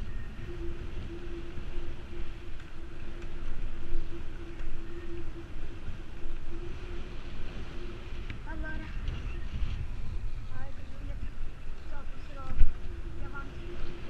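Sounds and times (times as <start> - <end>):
steady hum: 0.0 - 14.0
wind buffeting microphone: 0.0 - 14.0.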